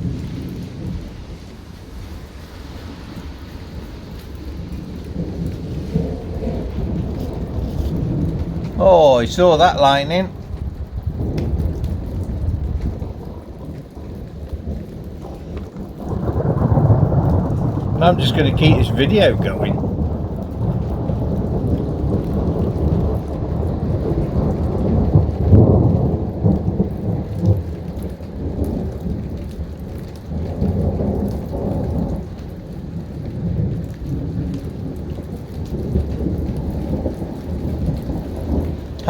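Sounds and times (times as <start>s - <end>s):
distant thunder rumbling: 0.0s - 27.8s, 33.2s - 39.0s
rain falling: 0.0s - 39.0s.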